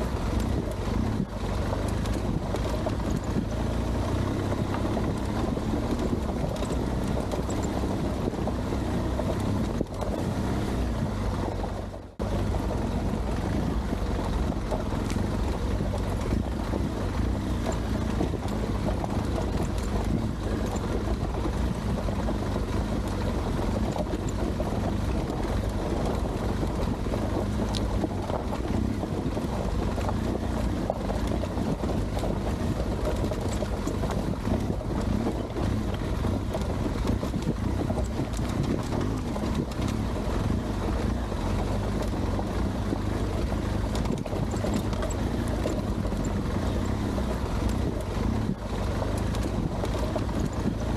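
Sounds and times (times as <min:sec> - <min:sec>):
motorcycle engine running: 0:00.0 - 0:50.9
wind noise on microphone: 0:00.0 - 0:50.9.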